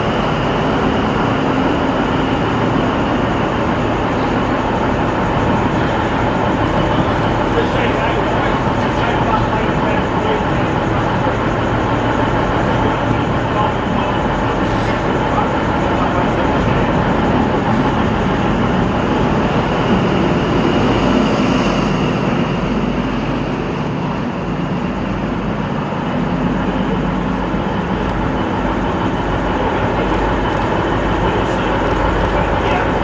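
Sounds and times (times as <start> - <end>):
diesel locomotive engine: 0.0 - 33.0.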